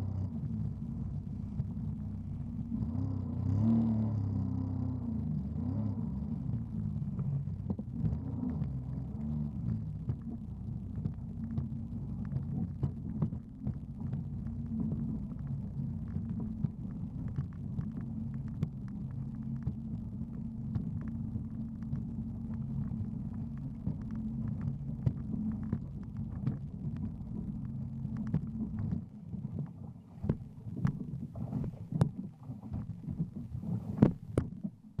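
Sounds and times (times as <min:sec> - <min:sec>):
jet ski engine drone: 0:00.0 - 0:34.6
water slapping on hull: 0:00.3 - 0:35.0.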